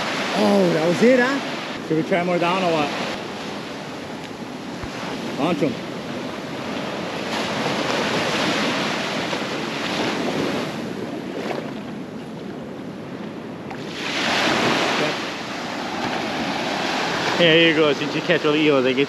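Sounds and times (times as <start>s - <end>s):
ocean surf breaking on beach: 0.0s - 19.0s.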